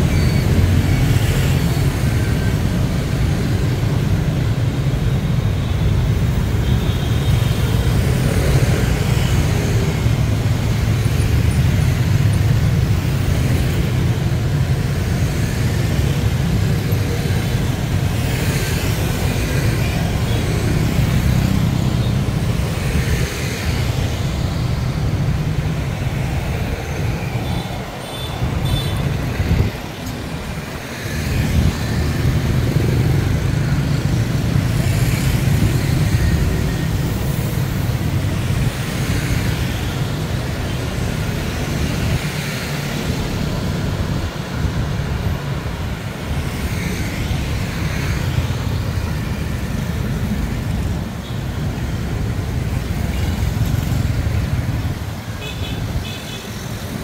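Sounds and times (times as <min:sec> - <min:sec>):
motorbikes and cars passing: 0:00.0 - 0:57.0
road traffic rumble: 0:00.0 - 0:57.0.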